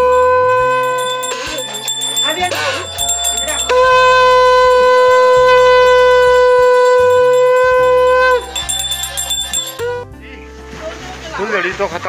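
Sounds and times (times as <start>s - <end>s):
conch shell blowing: 0.0s - 10.1s.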